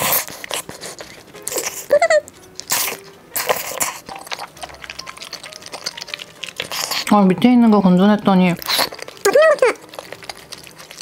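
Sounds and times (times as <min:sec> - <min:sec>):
chewing and slurping: 0:00.0 - 0:11.0.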